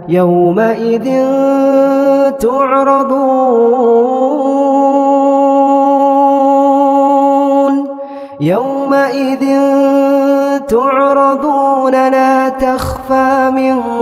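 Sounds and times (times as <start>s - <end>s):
man reciting in melodic chant: 0.0s - 14.0s.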